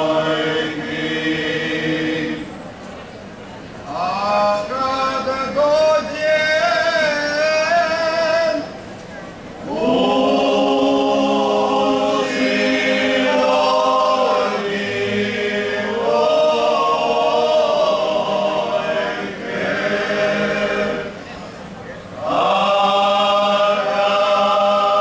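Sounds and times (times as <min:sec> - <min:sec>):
men's group singing unaccompanied: 0:00.0 - 0:02.5, 0:03.9 - 0:08.7, 0:09.6 - 0:21.2, 0:22.2 - 0:25.0.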